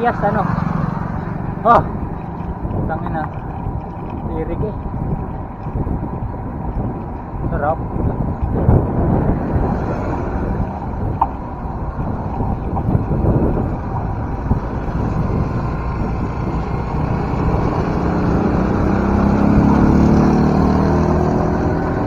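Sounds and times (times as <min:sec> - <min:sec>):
vehicle engine passing: 0:00.0 - 0:22.0
wind rushing over microphone: 0:00.0 - 0:22.0.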